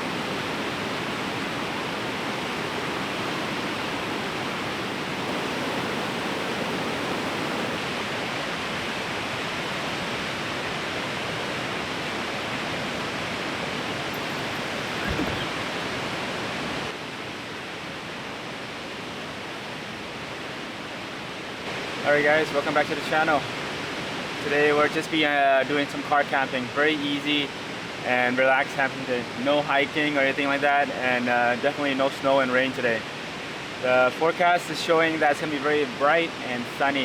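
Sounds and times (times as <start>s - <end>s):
fast river rushing: 0.0s - 37.0s.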